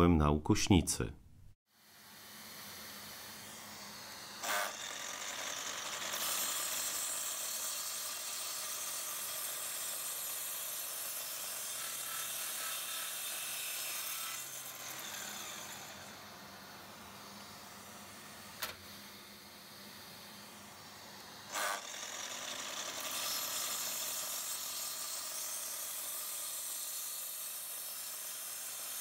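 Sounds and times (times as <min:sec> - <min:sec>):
mitre saw cutting wood: 0:02.0 - 0:17.9, 0:20.8 - 0:29.0.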